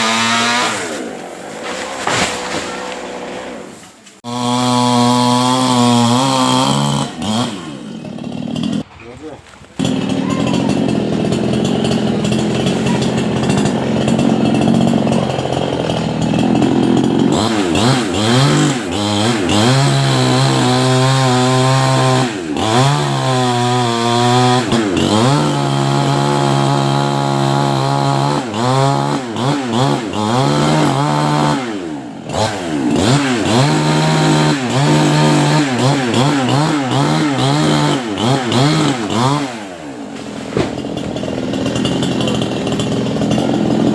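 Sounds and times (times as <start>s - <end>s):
chainsaw revving and cutting wood: 0.0s - 43.9s.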